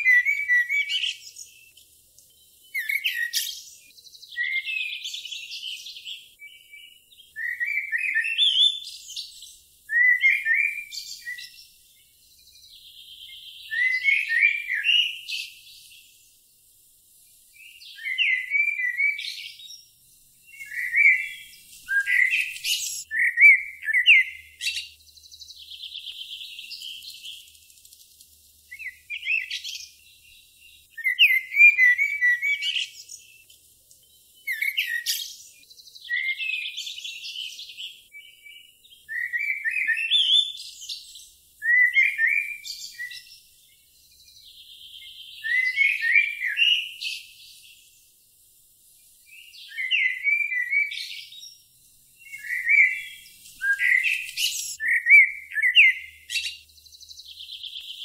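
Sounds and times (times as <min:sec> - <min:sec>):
songbird warbling: 0:00.0 - 0:01.8, 0:02.6 - 0:16.1, 0:17.3 - 0:28.0, 0:28.6 - 0:33.5, 0:34.4 - 0:47.8, 0:49.2 - 0:58.0.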